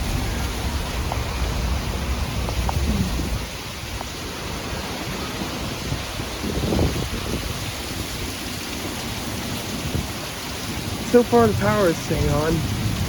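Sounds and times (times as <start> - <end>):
heavy rain pouring: 0.0 - 13.0
thunder rumbling: 0.0 - 13.0.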